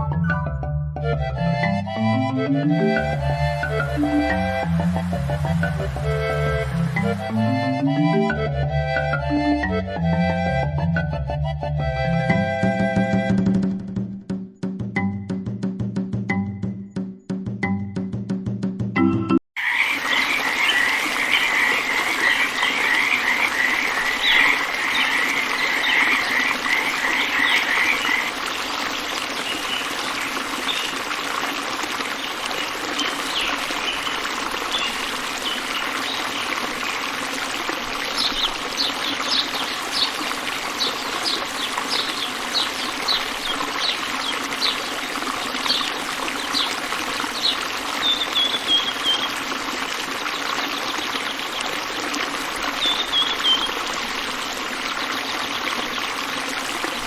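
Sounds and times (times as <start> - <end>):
running water: 2.1 - 10.8, 19.6 - 57.0.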